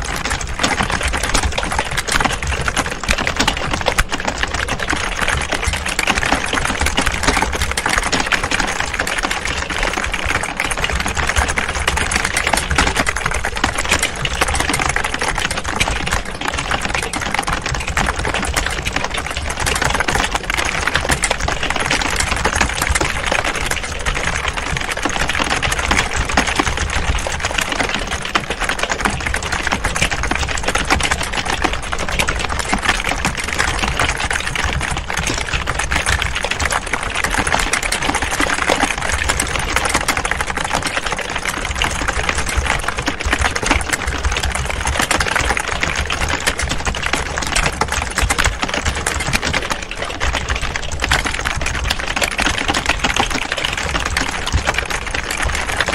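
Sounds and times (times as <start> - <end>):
keyboards typing clatter: 0.0 - 55.9.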